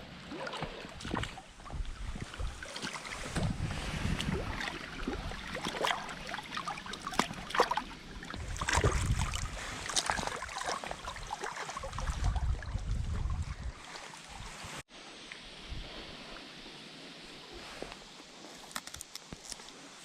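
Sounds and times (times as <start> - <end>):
wind rumbling on microphone: 0.0 - 6.4, 8.0 - 14.8, 15.4 - 18.6
water splashing and lapping: 0.0 - 20.0.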